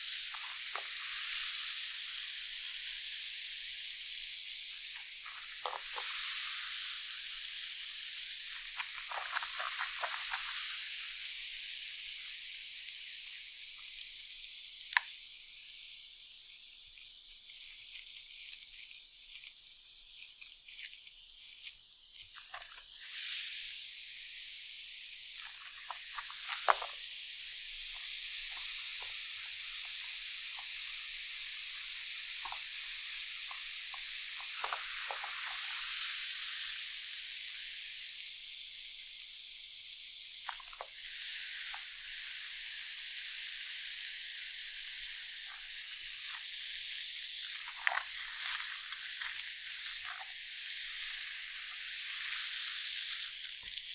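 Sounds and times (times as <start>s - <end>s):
bath bomb fizzing in water: 0.0s - 53.9s.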